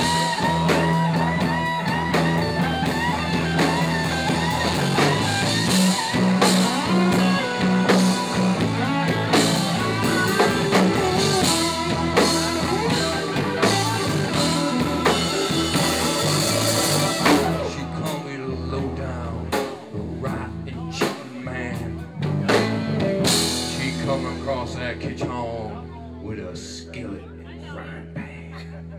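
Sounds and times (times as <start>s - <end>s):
blues-rock band playing: 0.0s - 27.1s.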